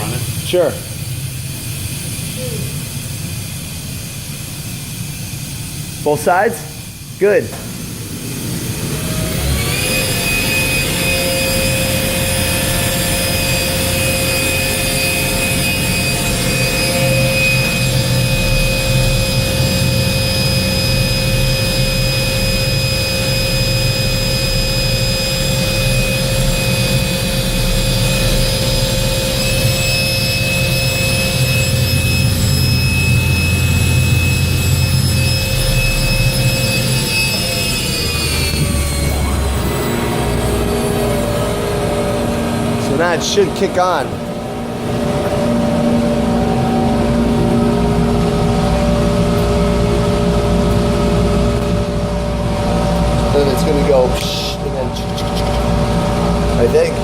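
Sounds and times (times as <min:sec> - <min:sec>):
air compressor motor whining: 0:00.0 - 0:57.0.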